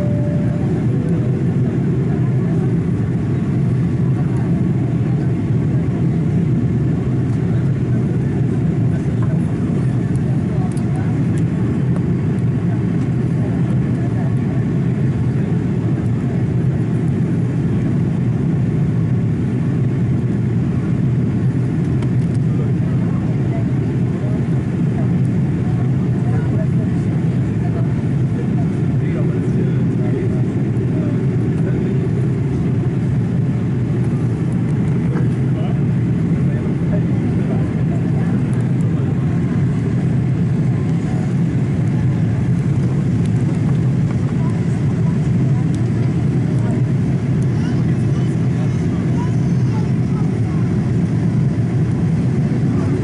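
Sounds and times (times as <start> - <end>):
airliner cabin engine rumble: 0.0 - 53.0.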